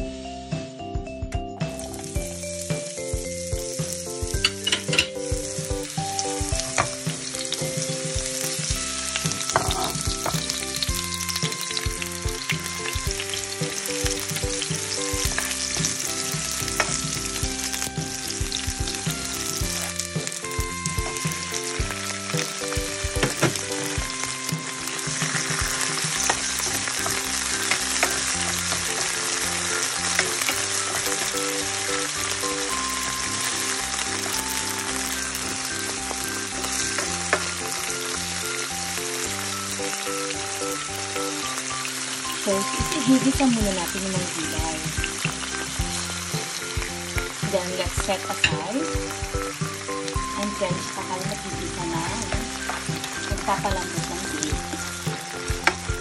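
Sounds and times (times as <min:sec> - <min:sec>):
onions sizzling in oil: 0:01.6 - 0:56.0.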